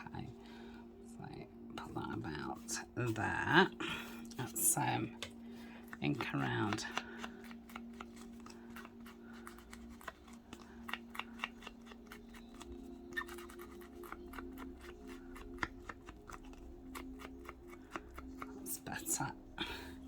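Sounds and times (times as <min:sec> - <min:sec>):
paper scratching and rubbing: 0:01.8 - 0:03.7, 0:04.3 - 0:18.9.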